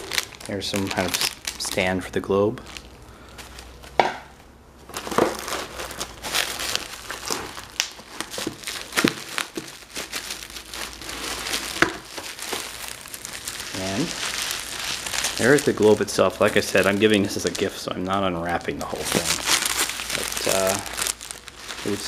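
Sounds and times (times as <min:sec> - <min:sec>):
bubble wrap crinkling: 0:00.0 - 0:04.0, 0:04.8 - 0:22.0.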